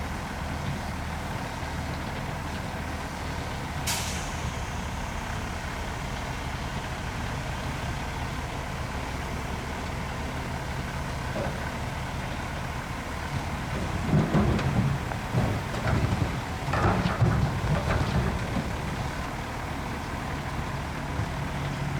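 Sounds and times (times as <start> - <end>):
diesel machinery engine drone: 0.0 - 21.9
rumbling and knocking: 4.3 - 21.9.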